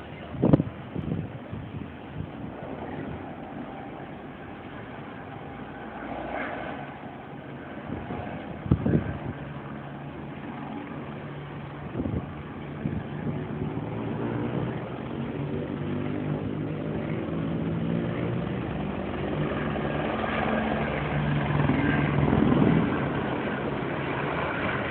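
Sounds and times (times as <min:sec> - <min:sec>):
helicopter rotor and engine drone: 0:00.0 - 0:24.9.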